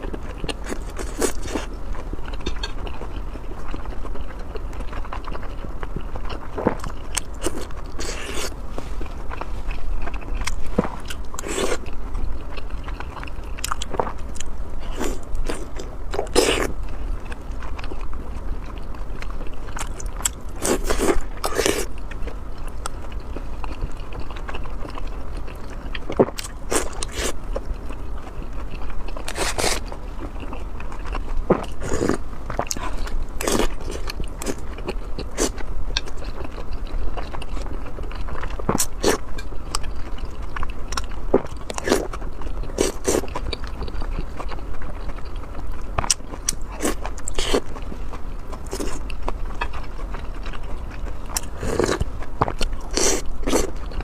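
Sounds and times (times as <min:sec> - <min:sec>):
person biting and chewing food: 0:00.0 - 0:03.3, 0:06.2 - 0:18.1, 0:19.2 - 0:25.0, 0:25.6 - 0:27.7, 0:28.6 - 0:47.8, 0:48.5 - 0:54.0.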